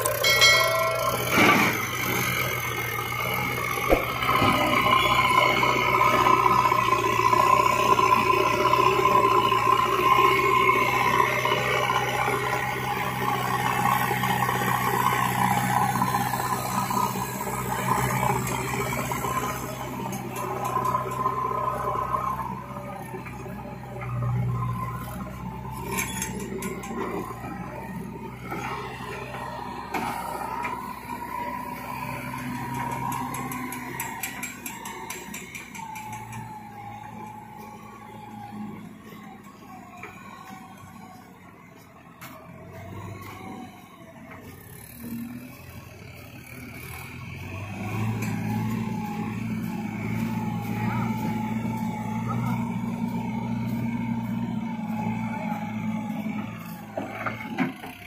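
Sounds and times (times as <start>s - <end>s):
wavering whine: 0.0s - 57.9s
backhoe diesel engine running: 0.0s - 58.0s.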